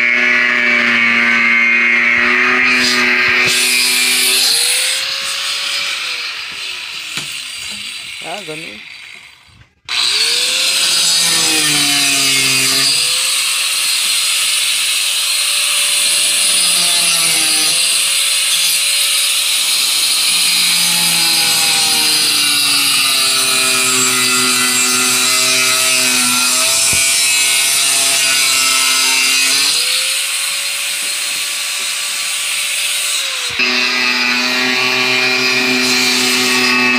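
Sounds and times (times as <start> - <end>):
angle grinder grinding wood: 0.0 - 36.9.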